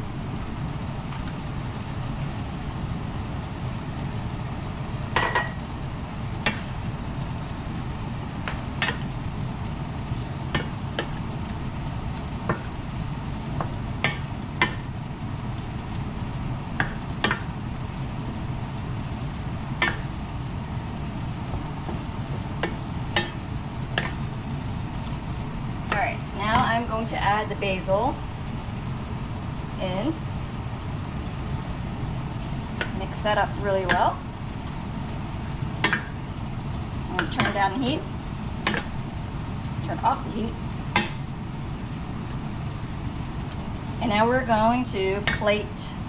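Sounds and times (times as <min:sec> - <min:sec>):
low rumble: 0:00.0 - 0:46.0.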